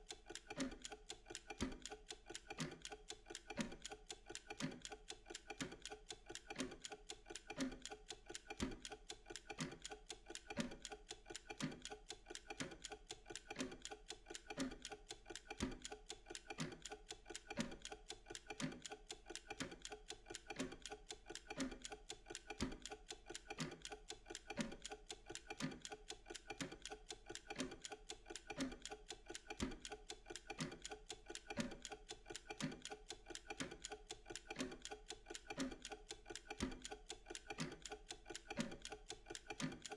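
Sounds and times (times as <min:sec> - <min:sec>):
mechanical timer ticking: 0:00.0 - 0:39.9.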